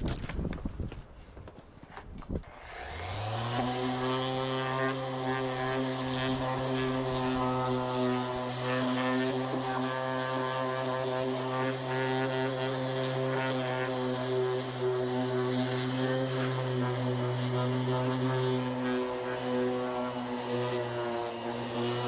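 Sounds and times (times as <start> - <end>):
motor starting and running: 2.4 - 22.0.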